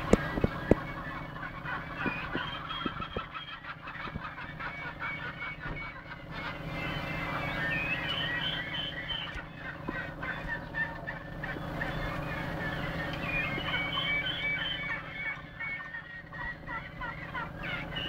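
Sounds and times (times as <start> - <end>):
birds chirping chorus: 0.0 - 18.0
low steady hum: 0.0 - 18.0.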